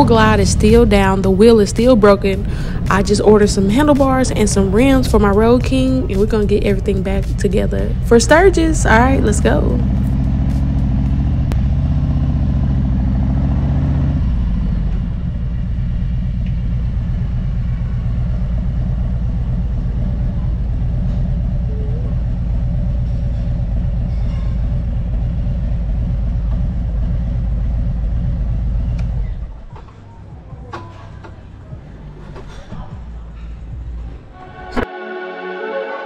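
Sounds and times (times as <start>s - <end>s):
motorcycle engine revving and idling: 0.0s - 32.2s.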